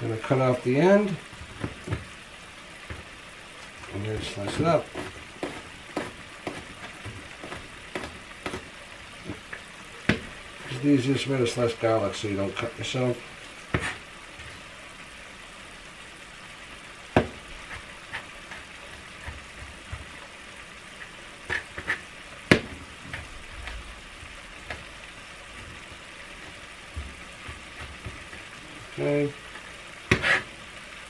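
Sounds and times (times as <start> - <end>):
bacon sizzling in a skillet: 0.0 - 31.0.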